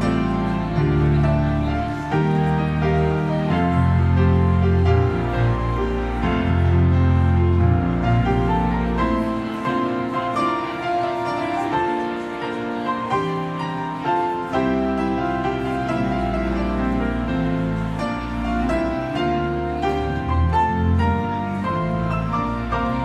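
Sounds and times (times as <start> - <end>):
pipe organ playing: 0.0 - 23.0.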